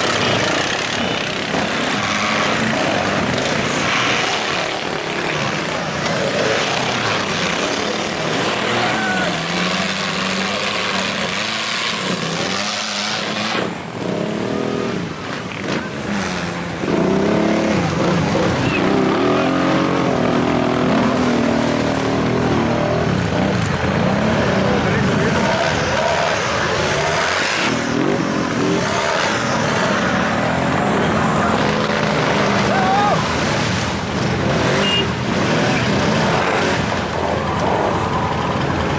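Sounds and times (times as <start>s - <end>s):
close engine revving hard: 0.0s - 38.9s
quad engines revving: 0.0s - 38.9s.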